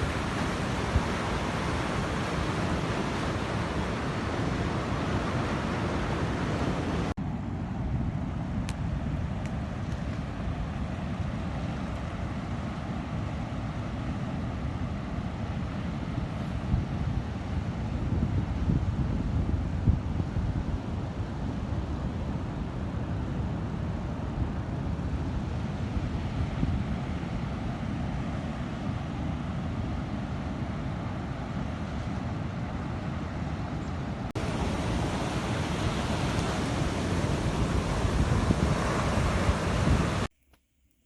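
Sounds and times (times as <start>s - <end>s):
wind buffeting microphone: 0.0s - 31.7s, 32.3s - 40.3s
sea waves washing on beach: 0.0s - 40.3s.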